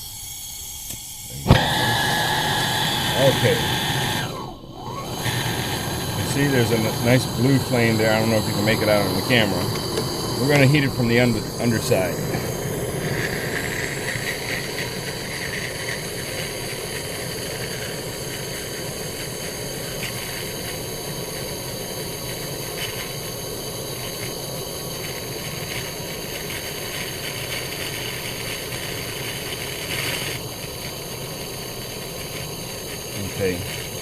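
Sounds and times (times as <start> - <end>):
blowtorch flame burning: 0.0 - 34.0.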